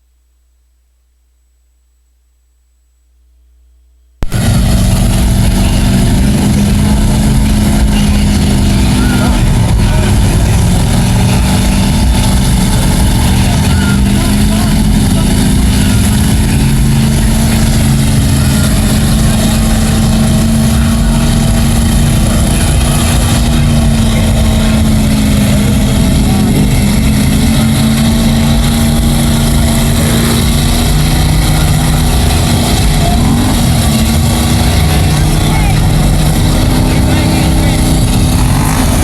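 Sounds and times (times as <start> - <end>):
truck engine running loud: 4.2 - 39.0.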